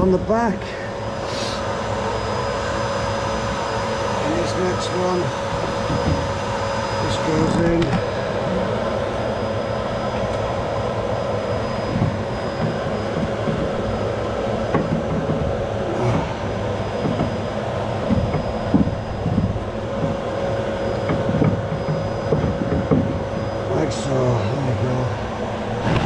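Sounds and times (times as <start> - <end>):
vacuum cleaner motor running: 0.0 - 26.0.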